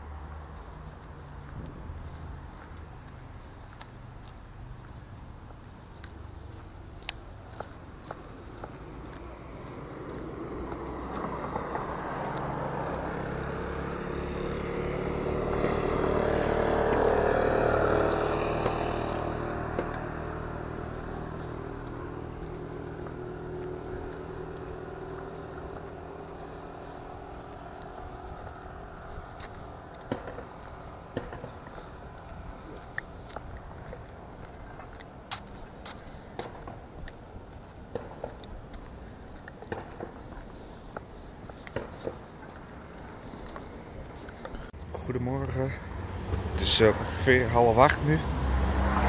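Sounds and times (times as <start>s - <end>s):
car passing on road: 0.0s - 49.0s.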